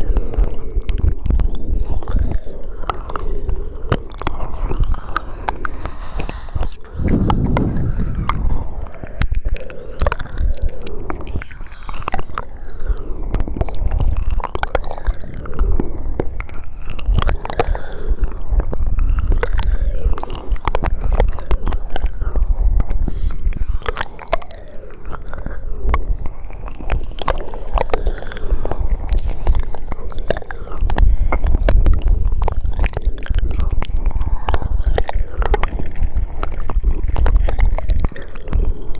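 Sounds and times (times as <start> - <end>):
mouth gurgling: 0.0 - 38.9
wet mouth clicks and smacks: 0.0 - 38.9.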